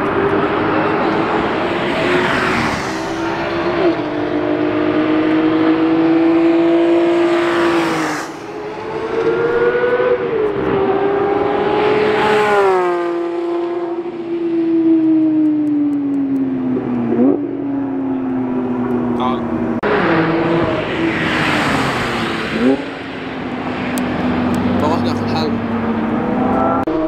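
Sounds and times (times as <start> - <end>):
sports cars passing at full throttle: 0.0 - 27.0.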